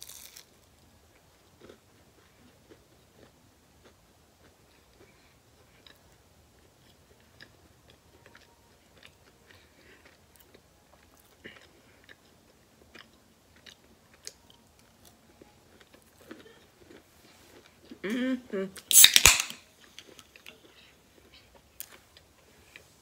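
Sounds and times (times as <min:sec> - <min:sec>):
faint chewing with mouth clicks: 0:01.1 - 0:18.2, 0:19.8 - 0:23.0.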